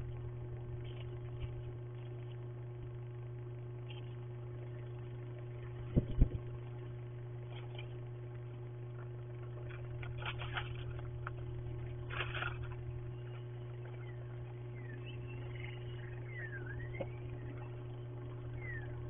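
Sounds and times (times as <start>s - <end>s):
crunching and scraping: 0.0s - 19.0s
electrical hum: 0.0s - 19.0s.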